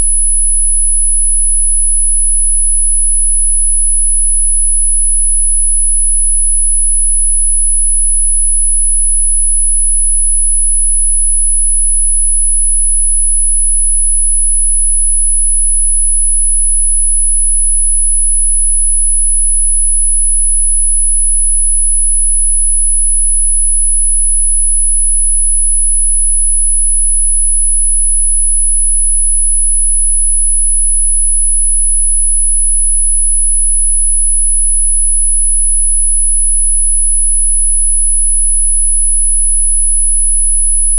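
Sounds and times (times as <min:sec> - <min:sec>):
high-pitched sine tone: 0:00.0 - 0:40.9.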